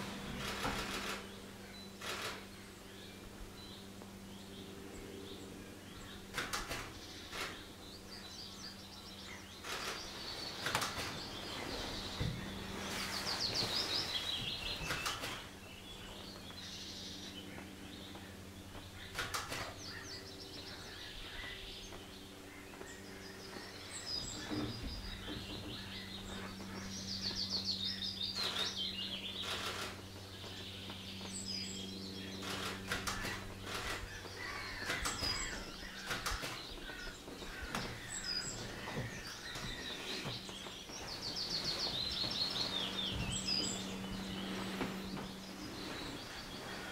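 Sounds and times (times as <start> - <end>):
low steady hum: 0.0 - 46.9
songbirds trilling: 0.0 - 46.9.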